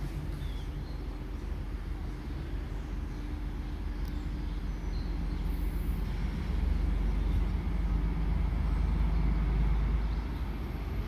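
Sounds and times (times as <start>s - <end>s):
diesel locomotive rumble: 0.0s - 11.0s.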